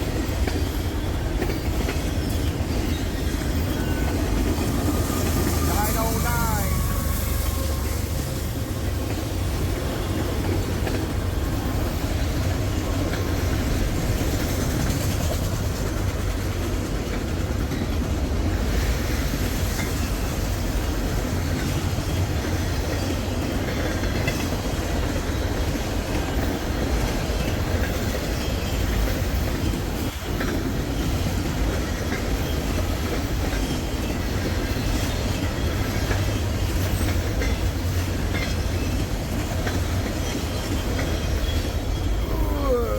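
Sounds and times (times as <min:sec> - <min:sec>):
train wheels on rails: 0:00.0 - 0:42.9.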